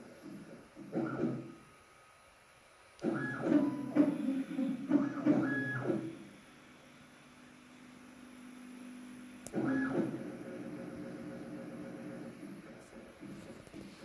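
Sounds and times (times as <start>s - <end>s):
printer whirring and clicking: 0.0s - 1.8s, 3.0s - 14.0s
steady low hum: 0.0s - 14.0s.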